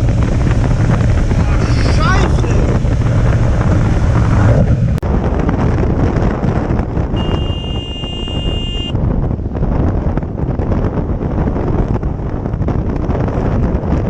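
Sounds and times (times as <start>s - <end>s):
motorcycle engine and road rumble: 0.0s - 14.0s
wind on microphone: 0.0s - 14.0s.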